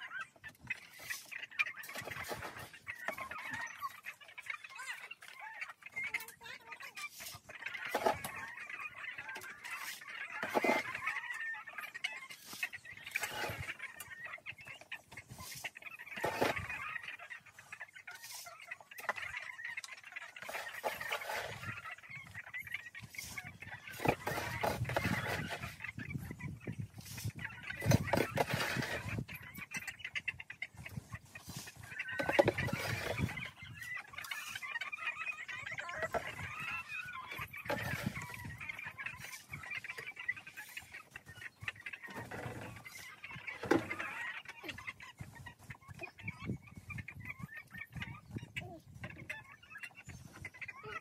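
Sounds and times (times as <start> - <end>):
hens clucking: 0.0 - 51.0.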